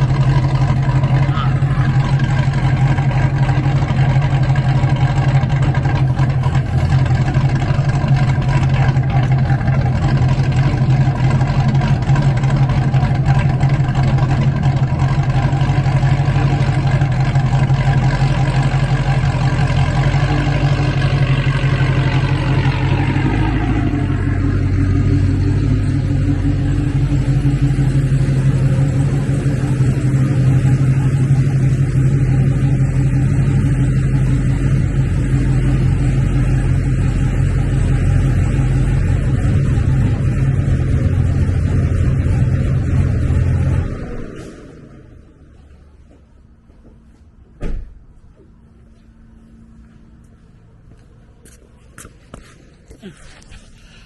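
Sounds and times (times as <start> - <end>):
car engine low drone: 0.0 - 54.0.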